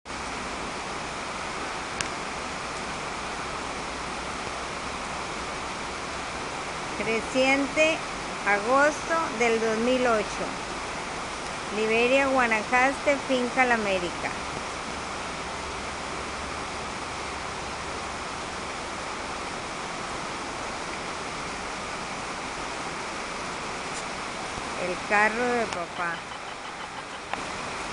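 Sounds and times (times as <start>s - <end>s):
heavy rain on water: 0.1s - 27.9s.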